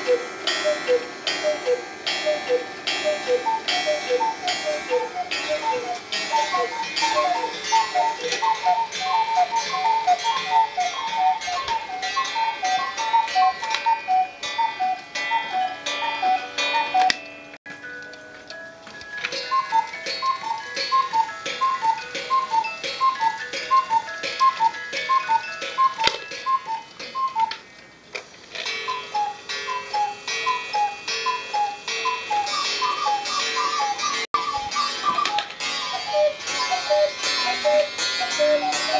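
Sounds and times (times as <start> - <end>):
clocks ticking: 0.0 - 38.9
cuckoo clock calls: 0.0 - 38.9.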